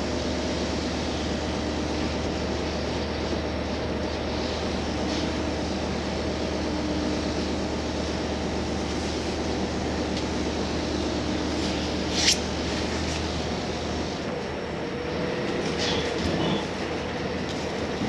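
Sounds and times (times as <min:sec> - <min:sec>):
railcar engine and wheels rumbling: 0:00.0 - 0:18.0.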